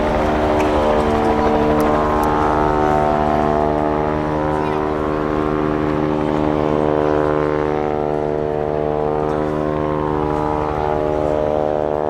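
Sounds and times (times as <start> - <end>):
helicopters droning: 0.0 - 12.0.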